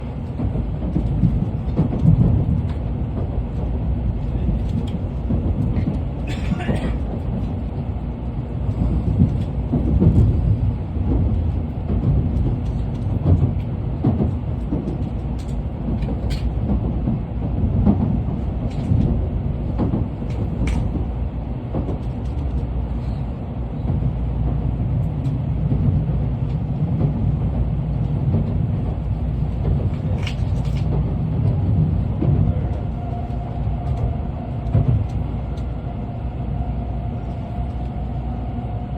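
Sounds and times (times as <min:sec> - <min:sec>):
train running gear rumble: 0:00.0 - 0:38.9.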